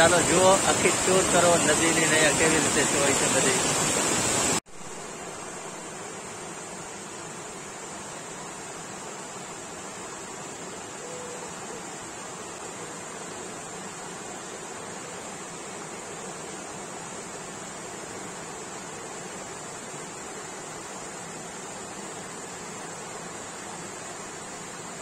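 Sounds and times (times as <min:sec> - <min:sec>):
high hiss: 0:00.0 - 0:25.0
river rushing over cascades: 0:00.0 - 0:25.0.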